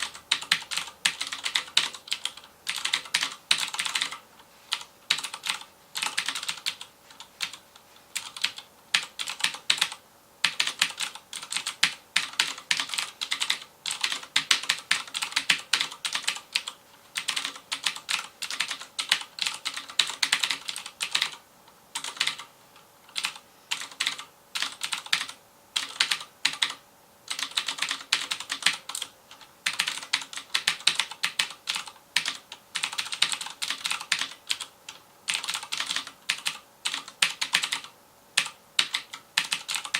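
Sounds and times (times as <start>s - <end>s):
clicky mechanical keyboard typing: 0.0s - 7.6s, 8.2s - 21.4s, 22.0s - 22.5s, 23.1s - 39.9s.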